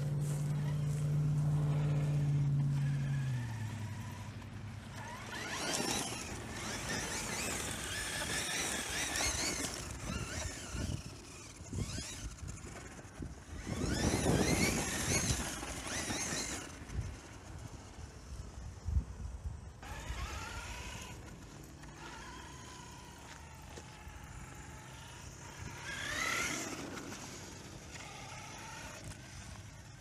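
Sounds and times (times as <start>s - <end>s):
electric motor whining: 0.0s - 18.8s, 19.8s - 30.0s.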